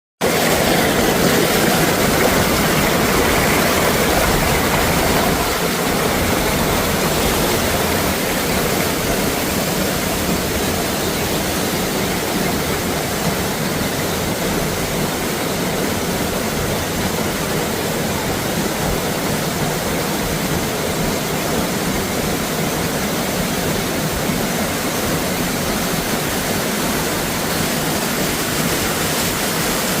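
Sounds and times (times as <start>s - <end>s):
running water rushing: 0.2s - 30.0s.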